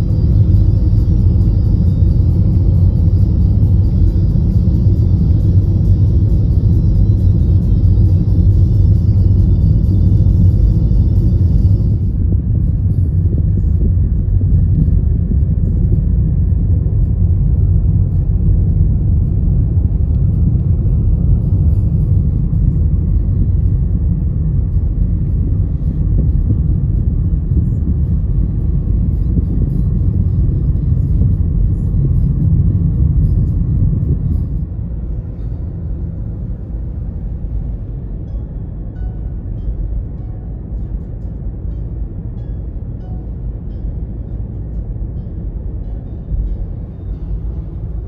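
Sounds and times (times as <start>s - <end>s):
car interior road rumble: 0.0s - 48.0s.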